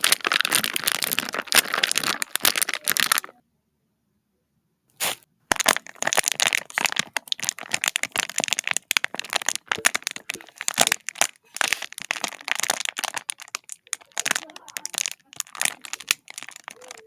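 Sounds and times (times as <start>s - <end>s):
sharp cracks and crunches: 0.0s - 3.3s, 5.0s - 17.0s.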